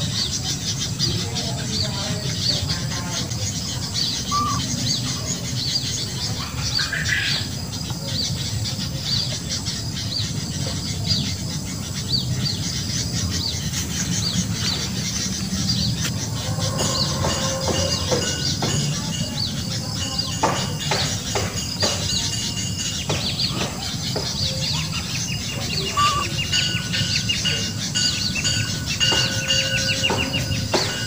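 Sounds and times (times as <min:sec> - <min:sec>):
bird chirping: 0:00.0 - 0:31.0.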